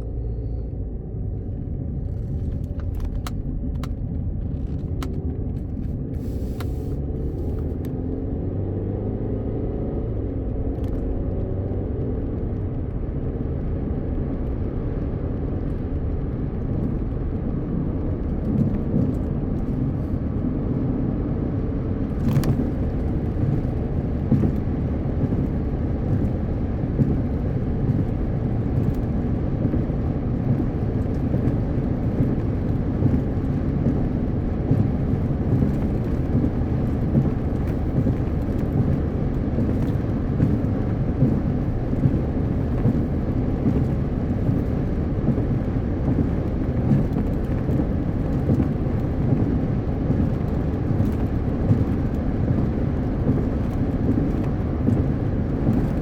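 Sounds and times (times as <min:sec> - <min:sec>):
tyre and road rumble: 0:00.0 - 0:56.0.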